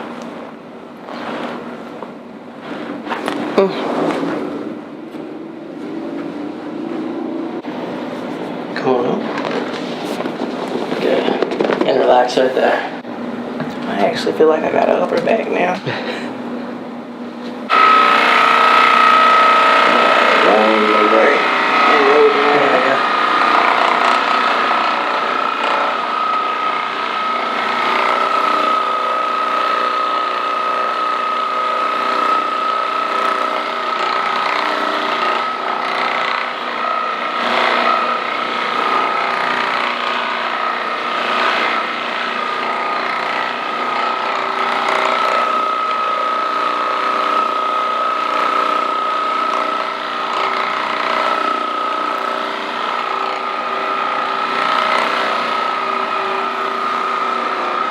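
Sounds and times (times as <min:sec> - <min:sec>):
massage gun whining: 0:00.0 - 0:57.9.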